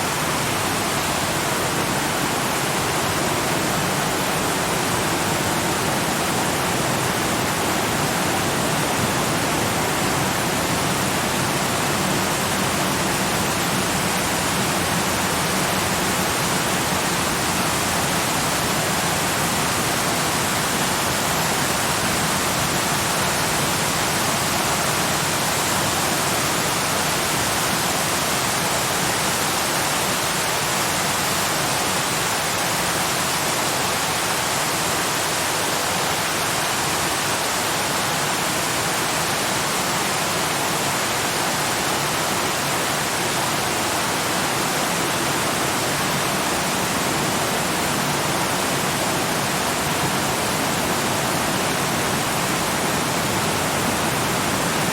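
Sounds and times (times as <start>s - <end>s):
waterfall roar: 0.0s - 54.9s.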